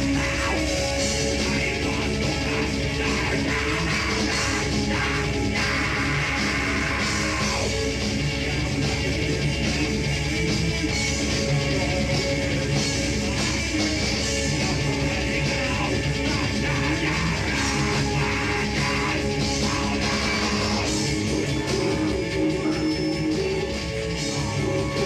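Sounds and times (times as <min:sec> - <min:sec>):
heavy rock band playing: 0:00.0 - 0:25.0.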